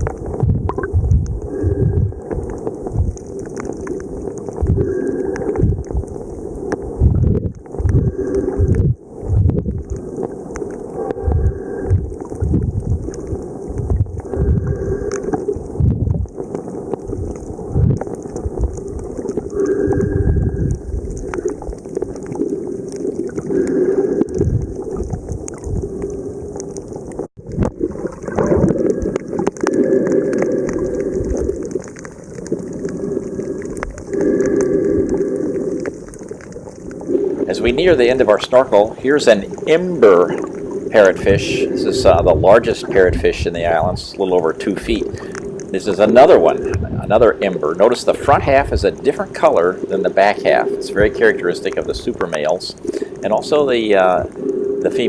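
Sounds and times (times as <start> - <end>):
muffled underwater water sloshing: 0.0 - 55.0.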